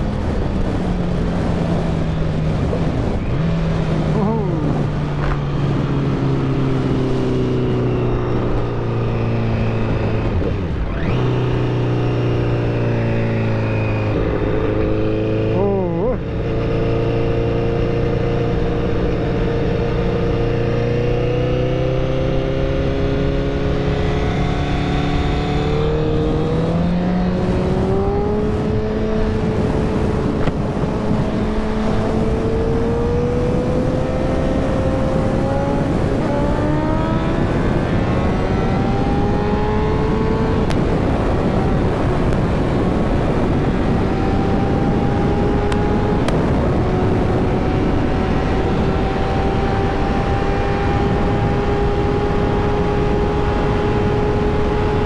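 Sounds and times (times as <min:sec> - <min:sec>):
motorcycle engine under throttle: 0:00.0 - 0:55.0
rush of wind noise: 0:00.0 - 0:55.0.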